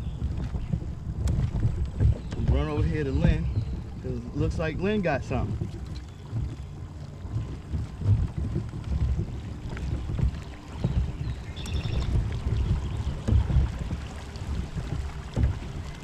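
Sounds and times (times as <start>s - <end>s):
water against kayak hull: 0.0s - 16.0s
wind rumble on microphone: 0.0s - 16.0s.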